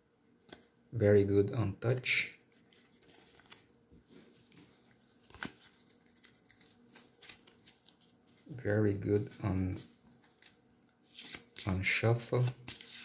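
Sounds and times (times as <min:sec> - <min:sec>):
cards rustling in hands: 0:00.4 - 0:00.8, 0:02.0 - 0:13.0
cards shuffling: 0:02.5 - 0:13.0.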